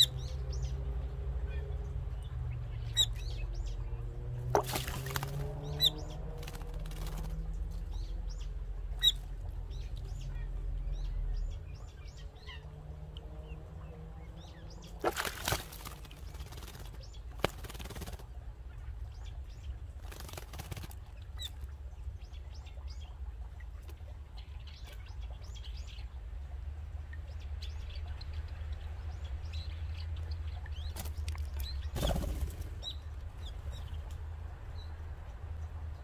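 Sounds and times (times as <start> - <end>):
birds splashing in water: 0.0 - 35.9
steady low rumble: 0.0 - 36.0.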